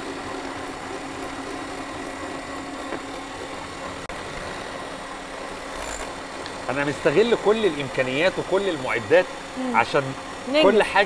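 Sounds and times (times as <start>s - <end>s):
electric mixers humming: 0.0s - 11.0s.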